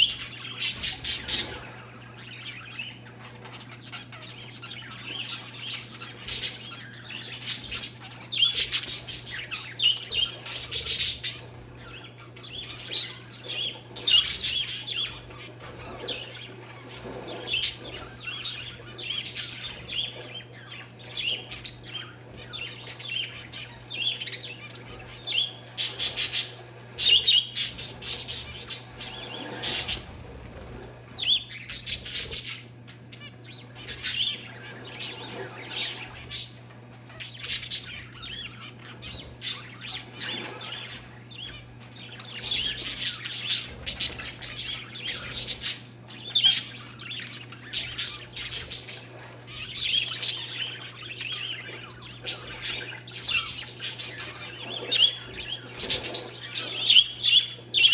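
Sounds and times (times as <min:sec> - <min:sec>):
birds chirping and squawking: 0:00.0 - 0:57.9
steady low hum: 0:00.0 - 0:57.9.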